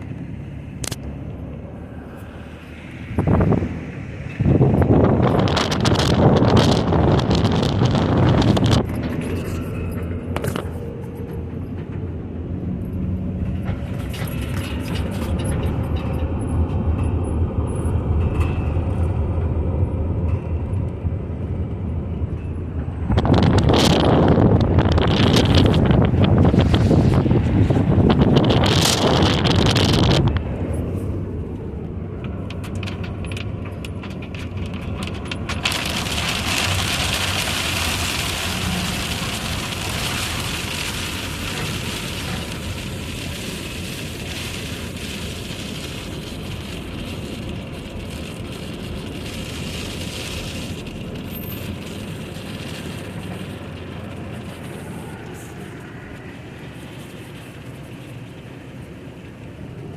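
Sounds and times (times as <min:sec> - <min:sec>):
vehicle running with rushing hum: 0:00.0 - 0:59.9.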